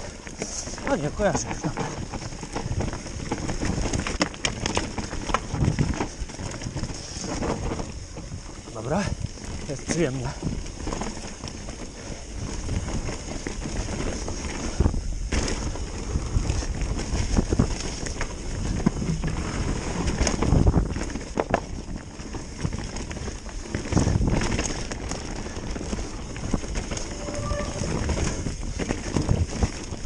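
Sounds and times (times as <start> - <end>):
bike rattling over bumps: 0.0 - 30.0
bike tyres rolling over dirt: 0.0 - 30.0.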